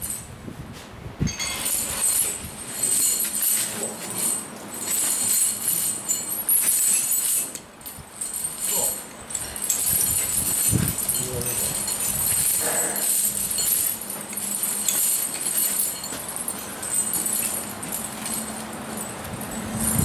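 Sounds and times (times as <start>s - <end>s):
snow chains clinking and rattling: 1.3s - 20.0s.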